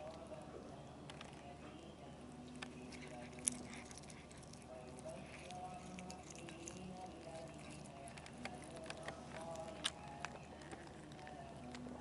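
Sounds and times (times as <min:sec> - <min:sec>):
cats chewing and crunching bones: 0:00.0 - 0:12.0.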